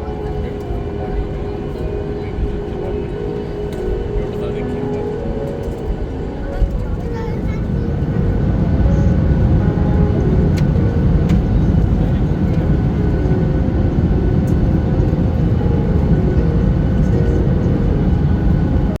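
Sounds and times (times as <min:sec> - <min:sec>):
airliner engine and airflow rumble: 0:00.0 - 0:19.0.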